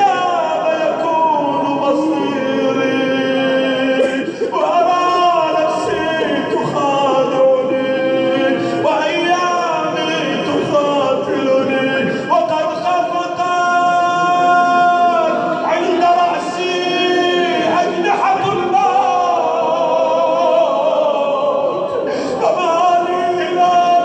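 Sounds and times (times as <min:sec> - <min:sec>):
man chanting: 0:00.0 - 0:19.6, 0:22.0 - 0:24.0.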